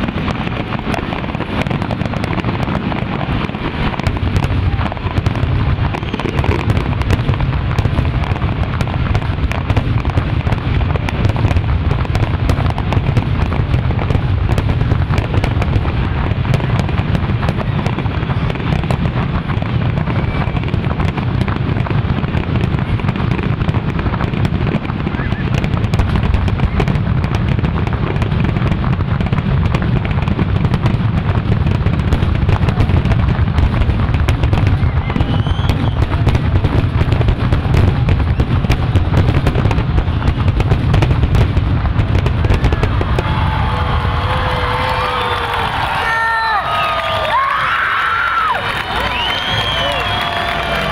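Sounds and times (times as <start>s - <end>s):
fireworks bursting in barrage: 0.0s - 50.9s.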